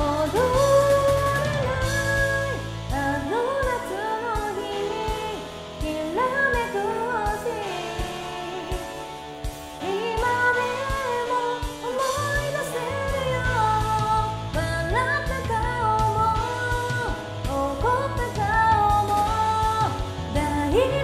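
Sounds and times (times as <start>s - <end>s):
karaoke backing track: 0.0s - 21.0s
woman singing pop song: 0.0s - 21.0s.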